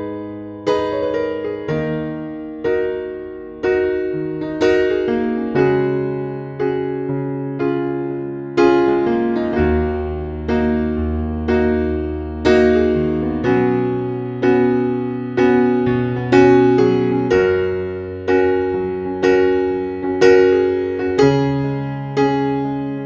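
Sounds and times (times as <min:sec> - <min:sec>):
slow electric piano piece: 0:00.0 - 0:23.0.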